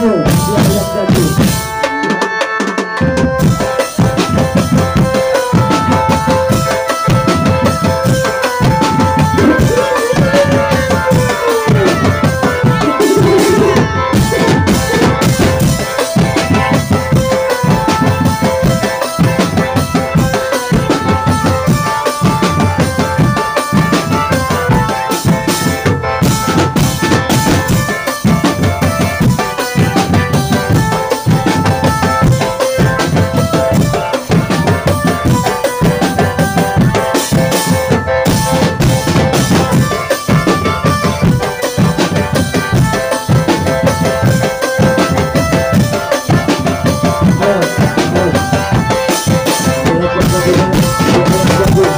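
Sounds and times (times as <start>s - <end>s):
loud drum beat: 0.0s - 51.9s
melody over drums: 0.0s - 51.9s.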